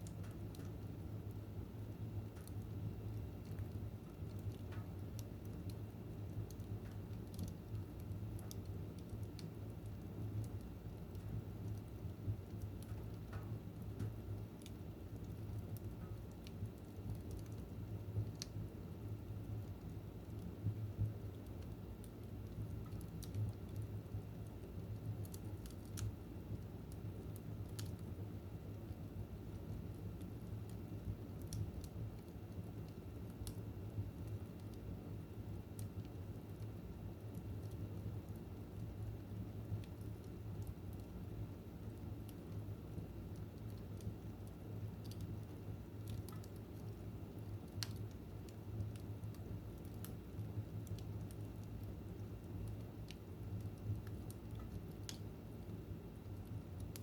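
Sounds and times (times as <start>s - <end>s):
fire rumbling: 0.0s - 57.0s
wood fire crackling and popping: 0.0s - 57.0s.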